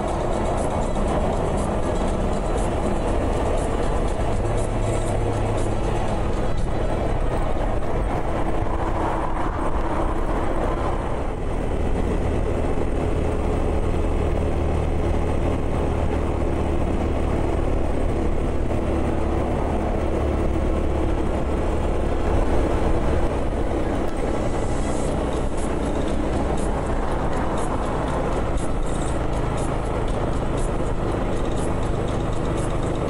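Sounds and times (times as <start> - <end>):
wind noise: 0.0 - 32.5
motorcycle engine running: 0.0 - 33.0.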